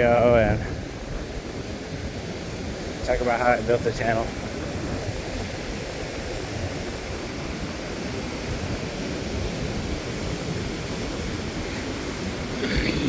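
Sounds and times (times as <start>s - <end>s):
ocean surf: 0.0s - 13.0s
wind: 0.0s - 13.0s.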